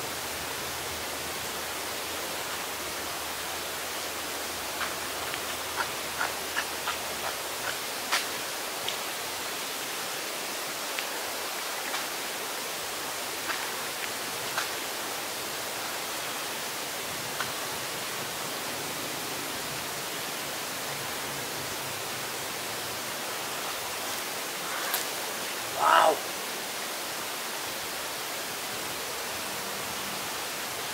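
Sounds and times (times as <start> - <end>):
outdoor background hiss: 0.0 - 30.9.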